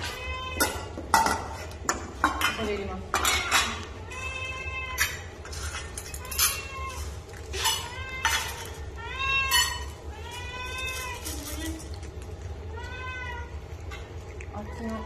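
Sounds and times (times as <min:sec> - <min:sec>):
cats meowing: 0:00.0 - 0:01.1, 0:03.4 - 0:15.0
metal food bowls clinking: 0:00.0 - 0:12.9.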